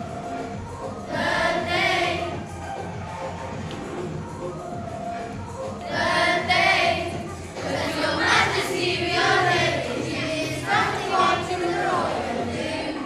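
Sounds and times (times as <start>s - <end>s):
children singing with music: 0.0s - 13.0s.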